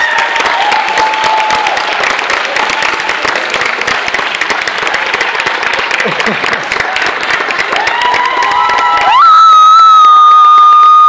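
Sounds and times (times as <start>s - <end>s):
audience cheering: 0.0s - 4.4s, 6.0s - 11.0s
audience applauding: 0.0s - 11.0s.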